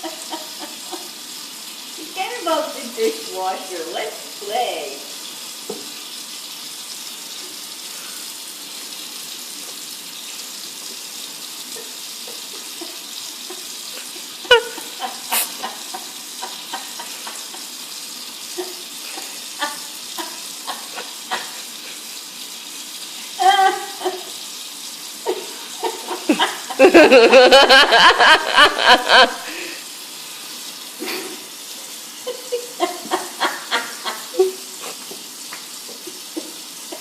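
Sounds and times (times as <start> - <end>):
running water hiss: 0.0 - 37.0.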